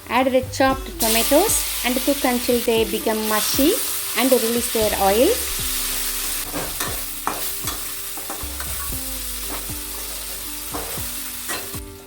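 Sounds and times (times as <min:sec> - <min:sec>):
food sizzling in a pot: 0:01.0 - 0:12.0.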